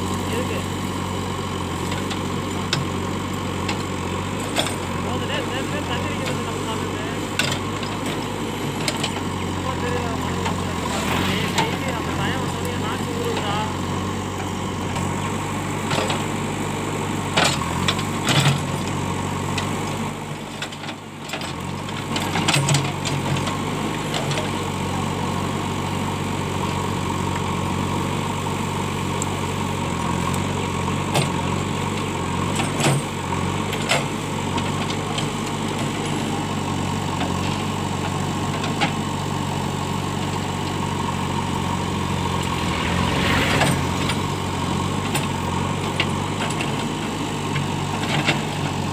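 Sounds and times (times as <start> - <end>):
diesel engine running under load: 0.0 - 48.9.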